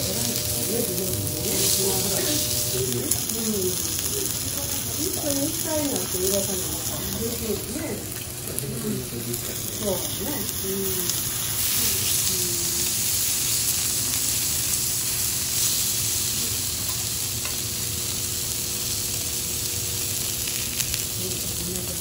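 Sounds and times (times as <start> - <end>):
steak sizzling on a griddle: 0.0 - 22.0.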